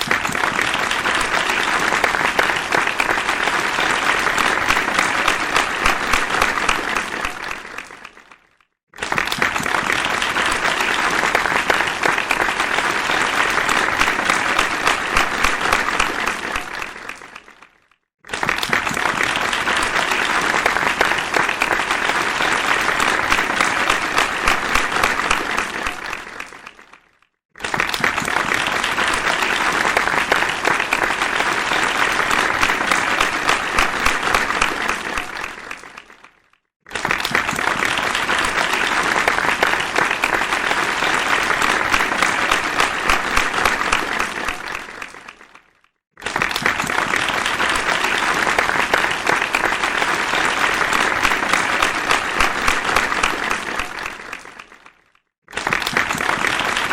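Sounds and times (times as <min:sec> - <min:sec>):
large audience applauding: 0:00.0 - 0:56.9.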